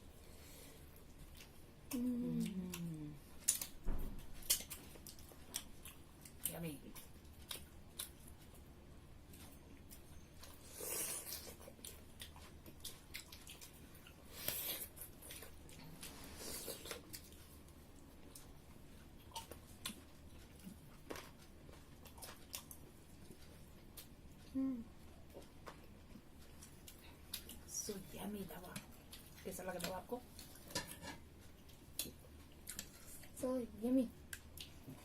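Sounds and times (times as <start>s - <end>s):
people chewing and eating: 0.0s - 35.0s.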